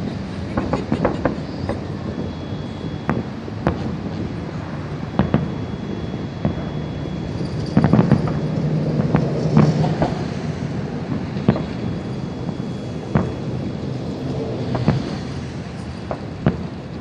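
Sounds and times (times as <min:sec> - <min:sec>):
fireworks booming and cracking: 0:00.0 - 0:17.0.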